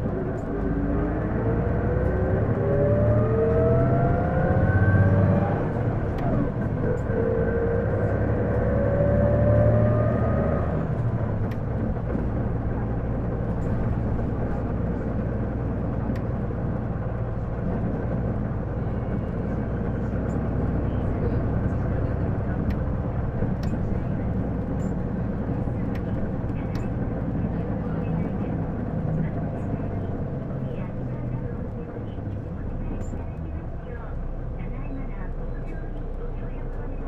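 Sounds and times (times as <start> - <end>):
bus engine accelerating: 0.0 - 37.0.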